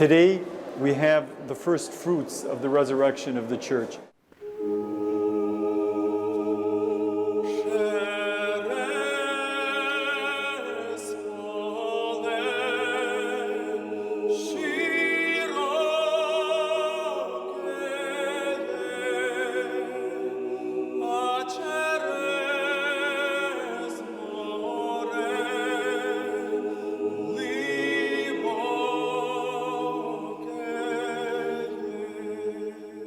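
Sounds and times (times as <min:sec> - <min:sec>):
unaccompanied choral singing: 0:04.4 - 0:33.0.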